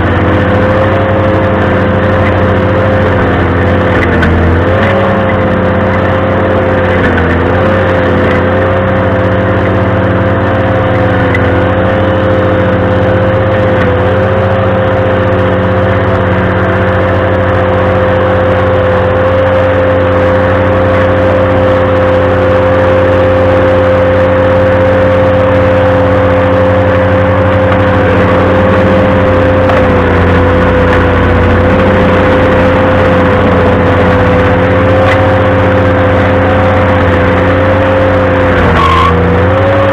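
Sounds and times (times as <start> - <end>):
stump grinder engine whine: 0.0 - 39.9.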